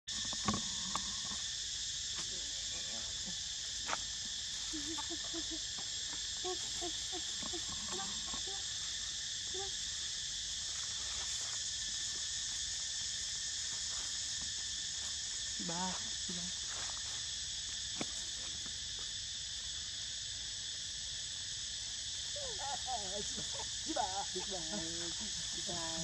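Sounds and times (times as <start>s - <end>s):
insects droning: 0.1s - 26.0s.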